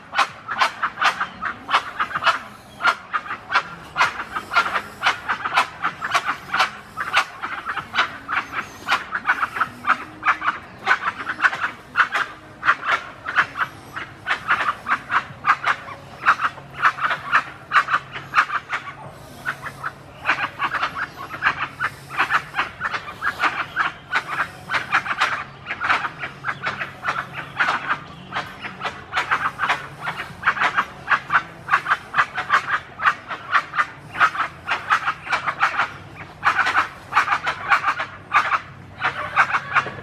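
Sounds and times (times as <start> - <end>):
birds calling in quick runs: 0.0 - 40.0.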